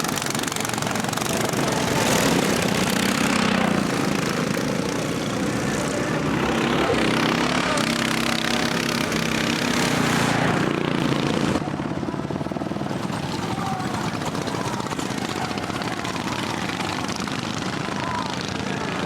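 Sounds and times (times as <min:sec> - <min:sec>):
lawnmower engines racing: 0:00.0 - 0:19.0.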